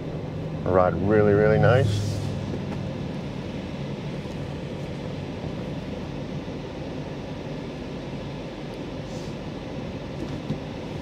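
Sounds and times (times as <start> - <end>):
car cabin engine hum: 0.0 - 11.0.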